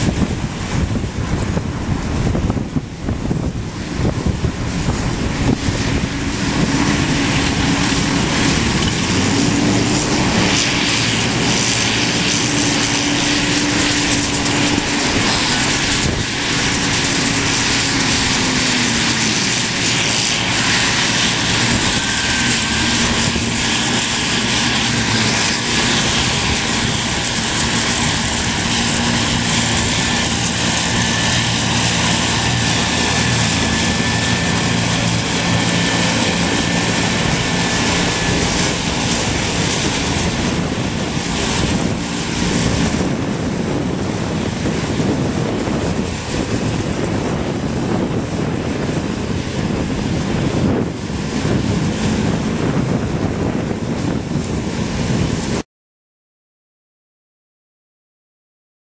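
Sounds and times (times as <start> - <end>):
tractor engine running: 0.0 - 54.6.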